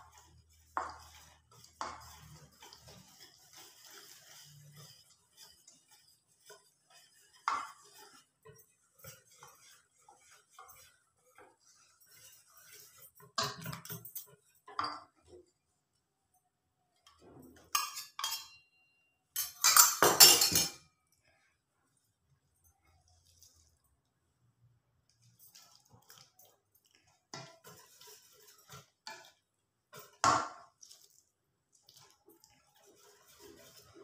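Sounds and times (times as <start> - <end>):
whisk clinking against metal bowl: 0.0 - 15.4, 17.5 - 21.0, 25.1 - 34.0.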